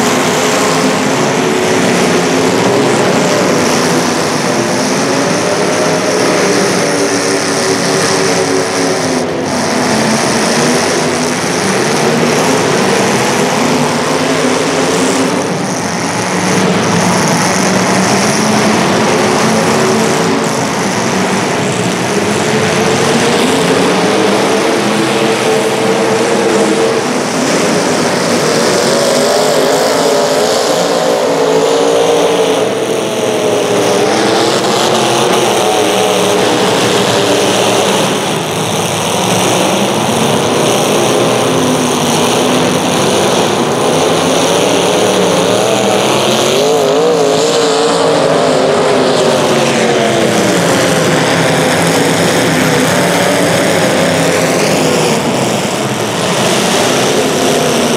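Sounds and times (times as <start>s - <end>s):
small racing engines revving: 0.0s - 57.9s.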